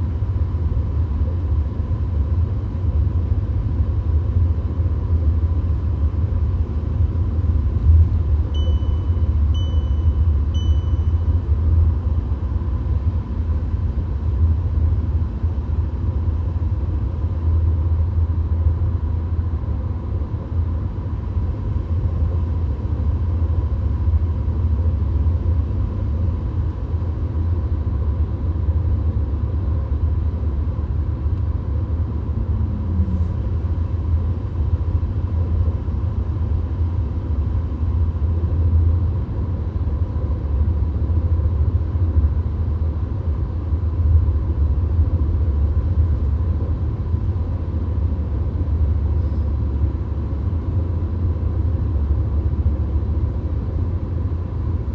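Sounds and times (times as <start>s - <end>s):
faint steady whine: 0.0s - 54.9s
road and engine rumble in car: 0.0s - 54.9s.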